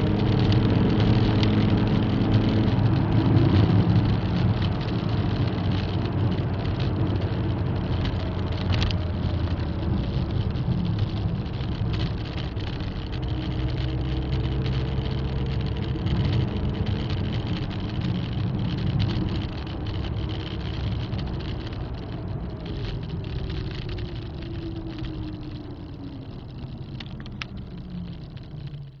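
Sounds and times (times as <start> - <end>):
diesel car engine slowing: 0.0 - 29.0
road noise: 0.0 - 29.0.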